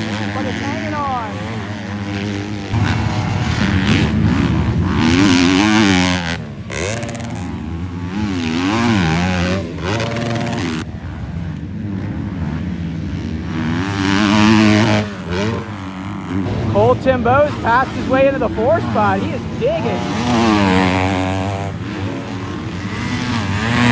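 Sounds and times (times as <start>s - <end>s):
motocross bike engines revving: 0.0s - 23.9s.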